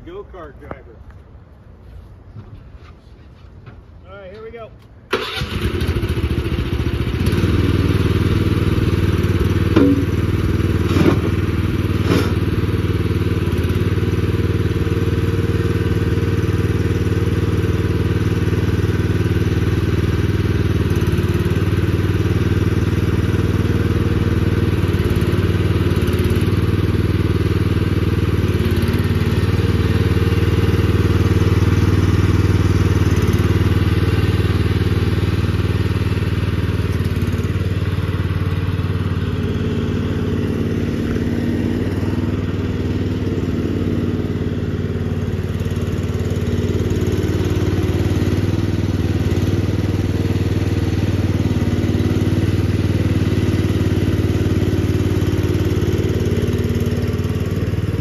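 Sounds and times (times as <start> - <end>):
small loader engine running: 4.8 - 58.0.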